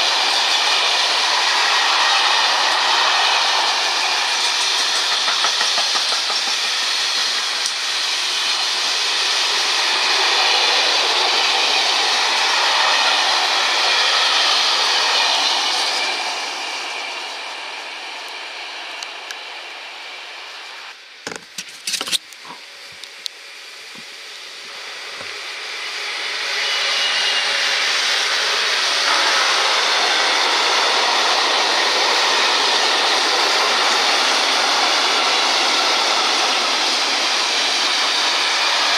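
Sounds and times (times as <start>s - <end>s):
freight train rushing past: 0.0s - 21.2s, 23.4s - 38.9s
freight train wheels on rails: 0.0s - 38.9s.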